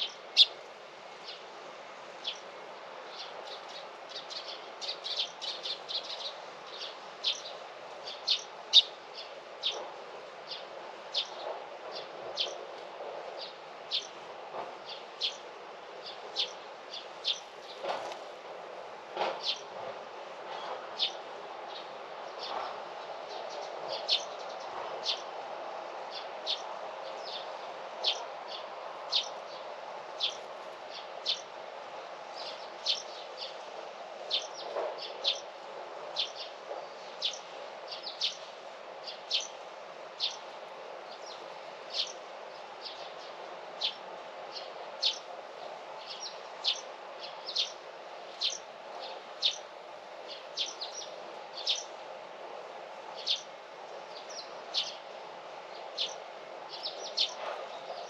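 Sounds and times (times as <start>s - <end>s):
outdoor background hush: 0.0s - 58.0s.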